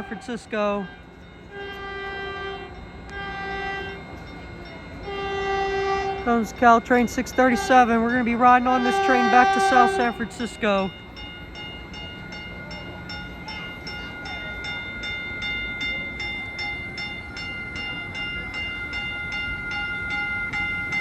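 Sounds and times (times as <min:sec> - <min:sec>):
bell ringing rapidly: 0:00.0 - 0:01.5, 0:02.7 - 0:21.0
train running noise: 0:00.0 - 0:21.0.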